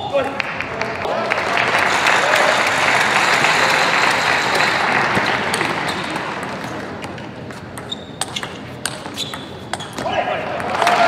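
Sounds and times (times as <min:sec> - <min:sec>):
crowd noise: 0:00.0 - 0:11.0.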